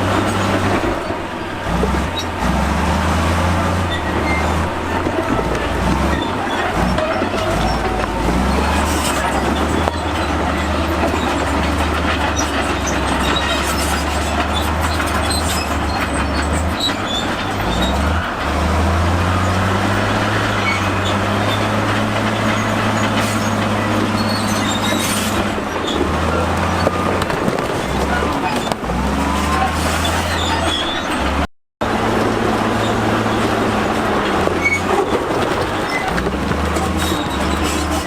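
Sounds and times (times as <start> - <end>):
diesel engine under load: 0.0 - 38.0
steel tracks clanking and squealing: 0.0 - 38.0.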